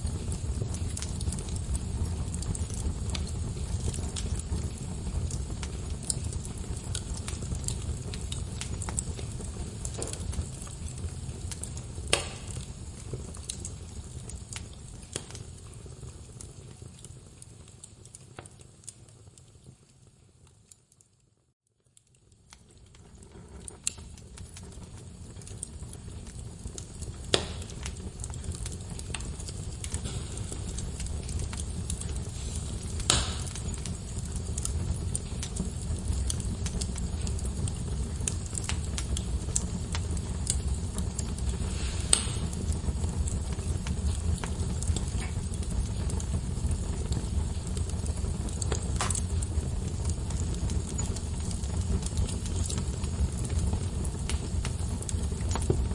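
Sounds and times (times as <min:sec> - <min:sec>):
sharp pops of fire: 0:00.0 - 0:19.5, 0:22.0 - 0:55.9
log fire crackling: 0:00.0 - 0:55.9.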